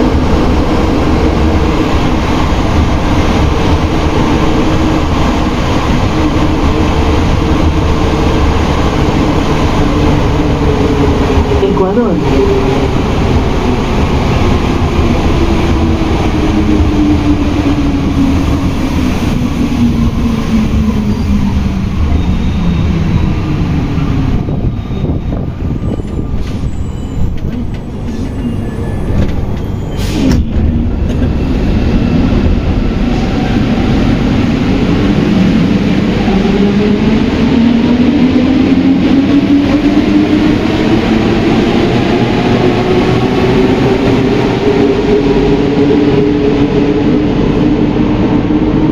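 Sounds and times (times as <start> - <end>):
metro train running rumble: 0.0 - 48.9.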